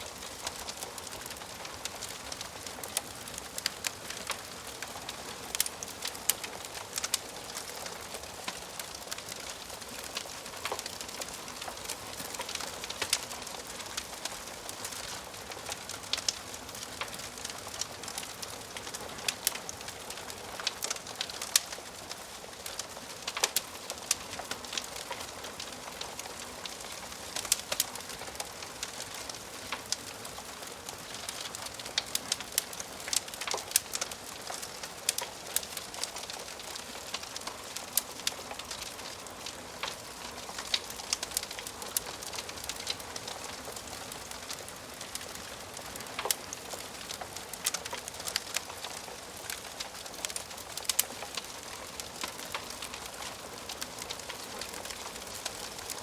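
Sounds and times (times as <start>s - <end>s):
soft steady hiss: 0.0s - 56.0s
wood fire crackling and popping: 0.0s - 56.0s.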